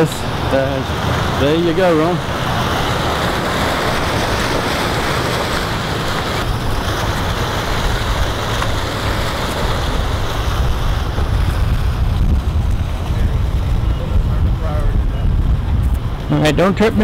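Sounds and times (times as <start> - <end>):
fountain water splashing: 0.0 - 17.0
wind buffeting microphone: 0.0 - 17.0.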